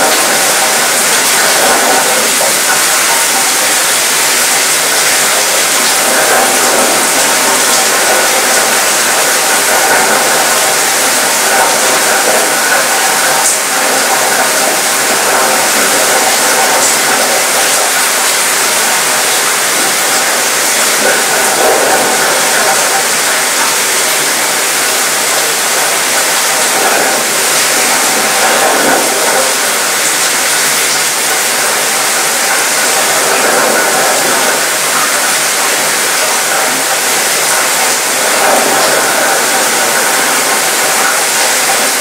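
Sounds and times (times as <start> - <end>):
rain hissing: 0.0 - 42.0
raindrops rattling on metal: 0.0 - 42.0.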